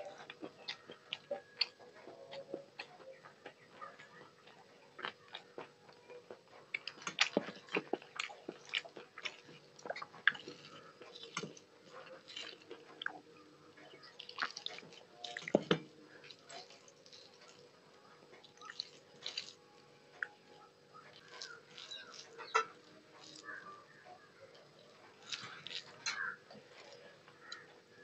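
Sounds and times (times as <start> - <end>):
wet chewing and lip smacks: 0.1 - 13.2, 13.8 - 15.6, 16.2 - 17.7, 18.4 - 20.4, 21.0 - 22.6, 24.6 - 27.7.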